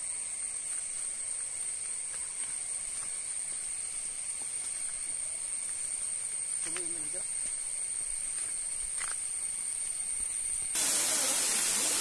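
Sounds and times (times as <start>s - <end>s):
high-pitched insect buzz: 0.0s - 12.0s
low steady insect whine: 0.0s - 12.0s.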